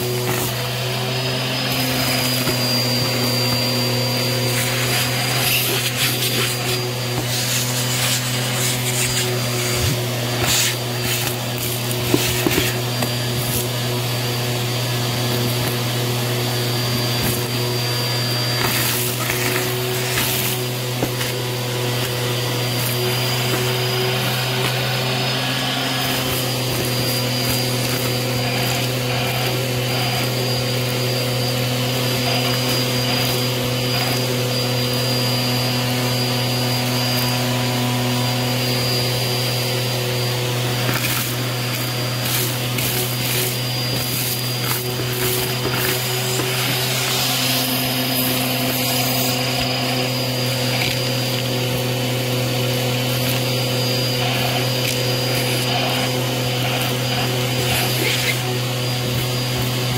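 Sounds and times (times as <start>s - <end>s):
debris rattling up vacuum hose: 0.0s - 34.2s, 39.0s - 59.9s
vacuum cleaner motor humming: 0.0s - 59.9s.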